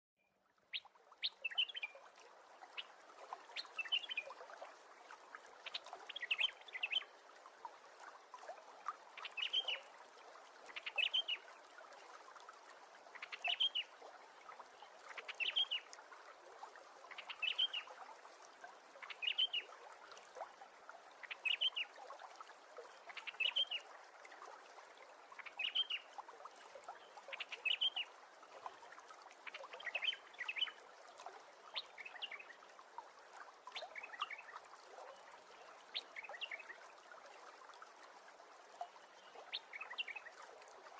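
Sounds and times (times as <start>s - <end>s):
faint steady hiss: 0.2s - 40.9s.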